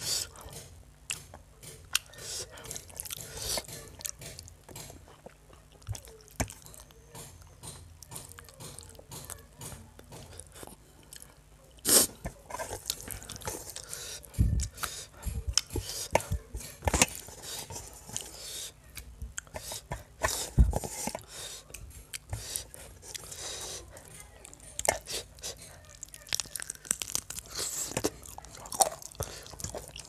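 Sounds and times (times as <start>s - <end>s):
person chewing with wet smacking: 0.0s - 30.0s
fingers squishing rice on metal plate: 5.9s - 30.0s.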